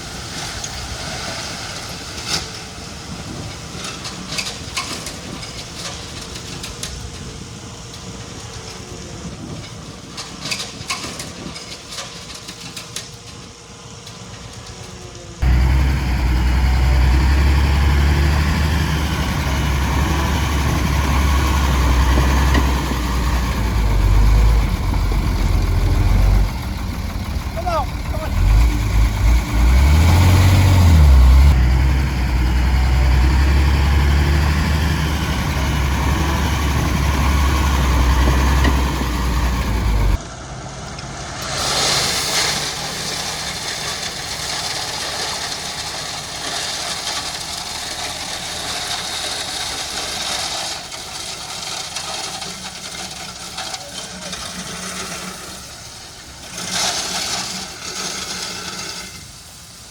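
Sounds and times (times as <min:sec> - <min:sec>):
heavy diesel engine droning: 0:11.5 - 0:59.9.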